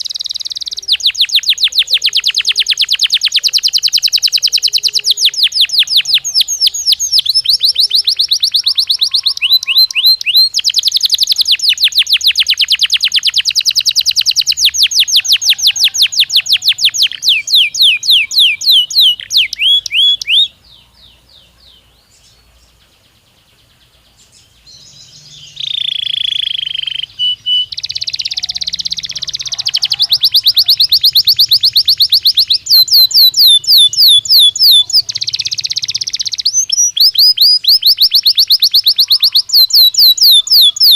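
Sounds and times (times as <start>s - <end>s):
canary trilling song: 0.0s - 40.9s.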